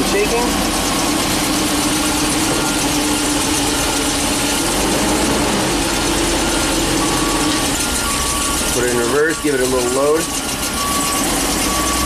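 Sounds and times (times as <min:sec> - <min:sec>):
engine idling roughly with misfires: 0:00.0 - 0:12.0.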